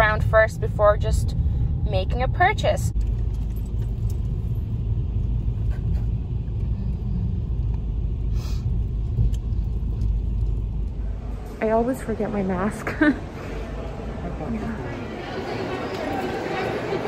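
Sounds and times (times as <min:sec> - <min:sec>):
car driving rumble: 0:00.0 - 0:15.9.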